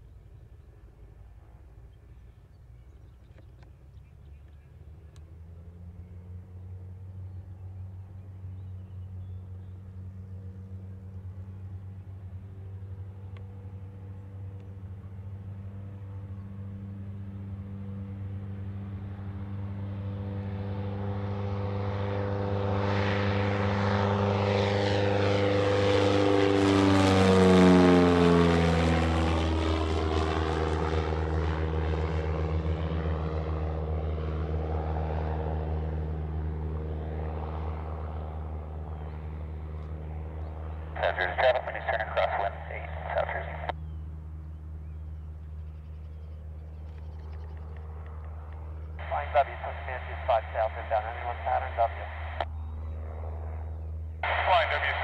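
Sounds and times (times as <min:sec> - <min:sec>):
propeller airplane passing: 0:00.0 - 0:55.0.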